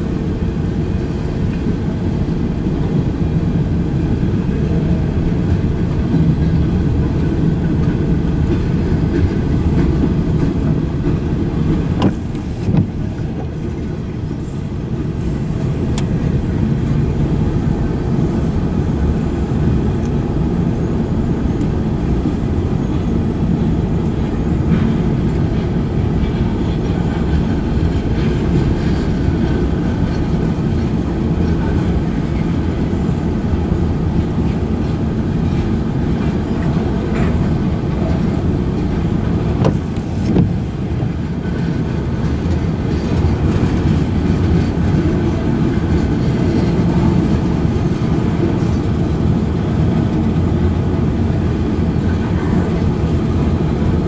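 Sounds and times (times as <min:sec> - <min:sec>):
steel wheels rolling on rail: 0:00.0 - 0:54.0.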